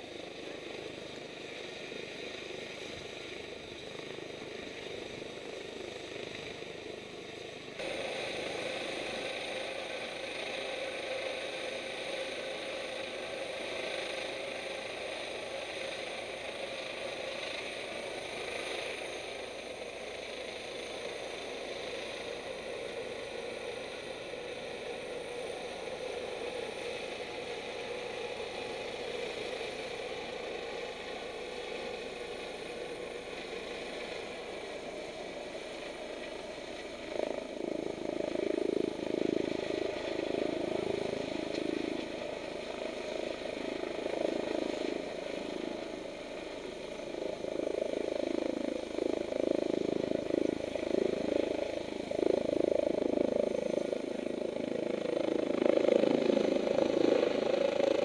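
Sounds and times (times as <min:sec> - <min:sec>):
helicopter engine and rotor: 0:00.0 - 0:58.0
thin high whine: 0:00.0 - 0:58.0.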